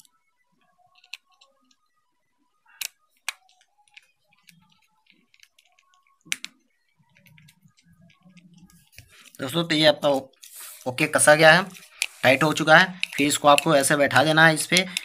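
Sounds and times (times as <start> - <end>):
soft handling noise: 2.8 - 15.0.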